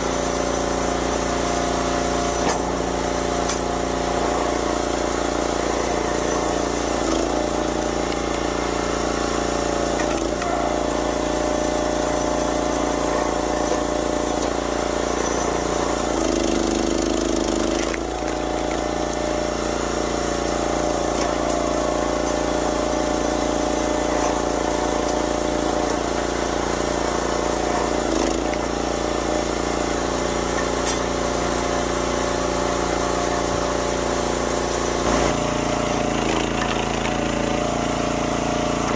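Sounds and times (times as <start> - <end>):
log splitter gas engine running: 0.0 - 38.9.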